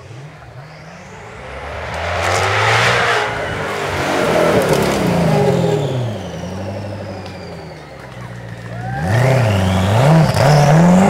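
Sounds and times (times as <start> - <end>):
sports car engine accelerating past: 0.0 - 11.0.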